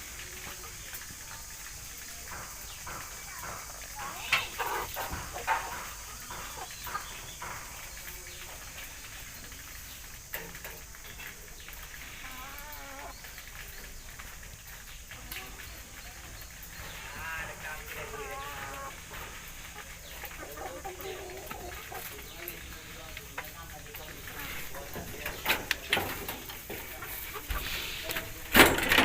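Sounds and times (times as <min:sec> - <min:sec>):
chickens clucking and squawking: 0:00.0 - 0:29.0.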